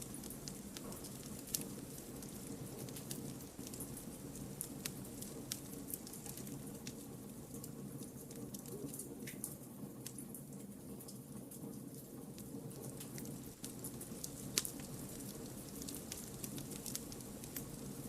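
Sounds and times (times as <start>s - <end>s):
campfire crackling and popping: 0.0s - 10.4s, 11.7s - 18.0s.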